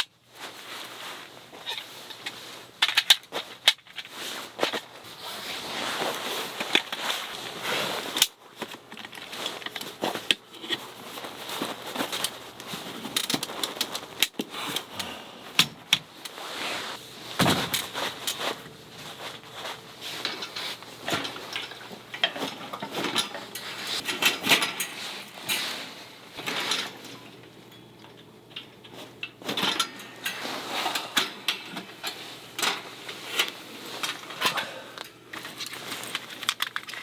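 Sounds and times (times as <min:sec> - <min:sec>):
objects being handled: 0:00.4 - 0:37.0.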